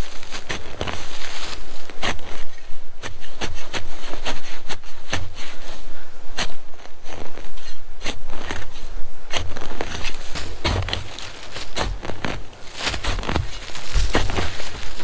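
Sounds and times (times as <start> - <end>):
spade digging into soil: 0.0 - 5.7, 6.3 - 15.0.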